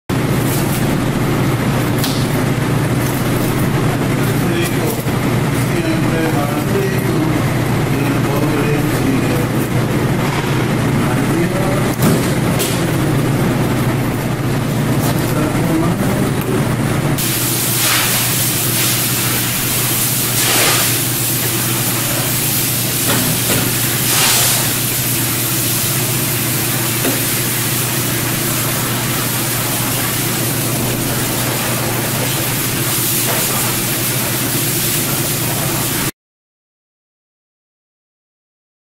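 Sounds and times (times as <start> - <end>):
machinery hum and hiss: 0.2 - 36.1.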